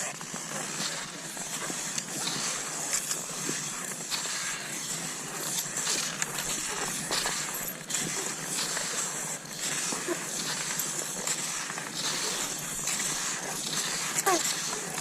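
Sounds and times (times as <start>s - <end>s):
skis sliding over snow: 0.0s - 15.0s.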